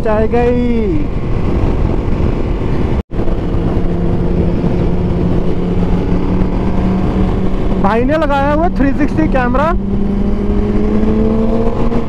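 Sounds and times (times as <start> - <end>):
wind rush on microphone: 0.0 - 12.0
motorcycle engine running: 1.6 - 12.0.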